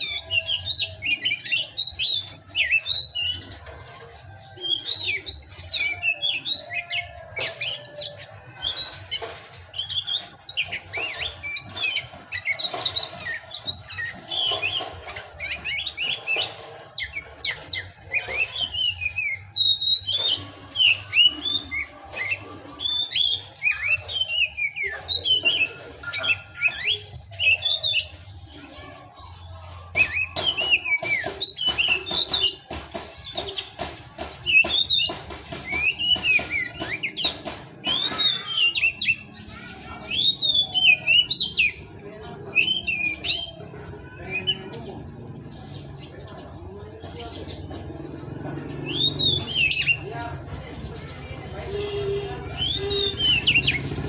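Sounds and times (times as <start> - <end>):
songbird chirping and whistling: 0.0 - 54.0.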